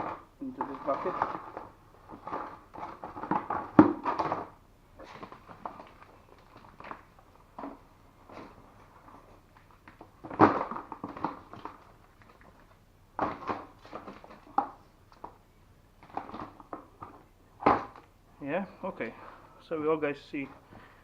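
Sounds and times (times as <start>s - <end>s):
plastic scraps dropped into bucket: 0.0s - 15.4s, 16.0s - 18.1s.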